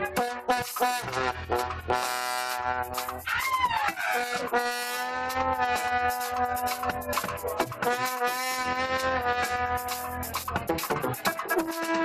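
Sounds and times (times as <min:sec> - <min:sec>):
drum hits: 0:00.0 - 0:11.8
horn section playing held notes: 0:00.0 - 0:12.0.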